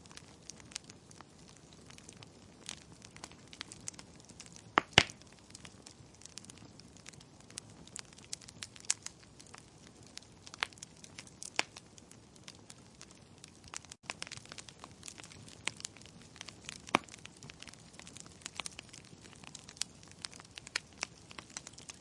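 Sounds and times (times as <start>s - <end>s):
burning wood crackling and popping: 0.0s - 22.0s.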